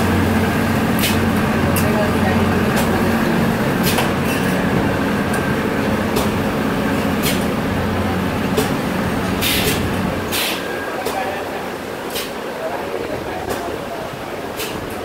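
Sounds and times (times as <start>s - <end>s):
machinery humming: 0.0s - 14.6s.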